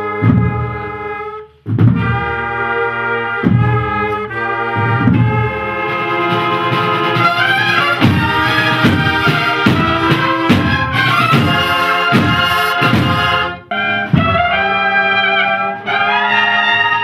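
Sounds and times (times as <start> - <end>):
brass band march: 0.0 - 17.0.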